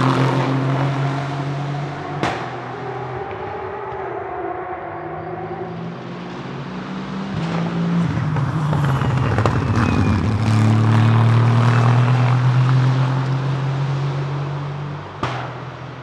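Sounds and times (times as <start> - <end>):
race car engine passing at speed: 0.0 - 16.0.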